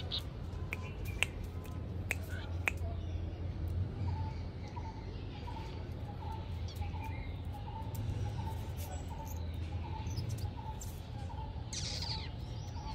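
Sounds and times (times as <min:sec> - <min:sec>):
bird chirping: 0:00.0 - 0:03.2, 0:03.9 - 0:12.9.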